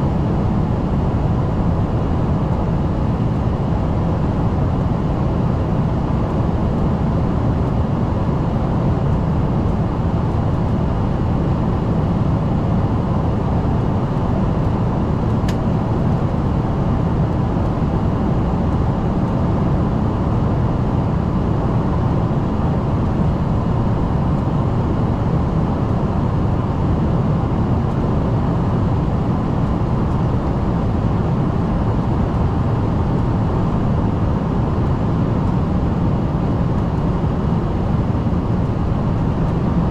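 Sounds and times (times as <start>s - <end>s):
jet cabin low rumble: 0.0s - 39.9s.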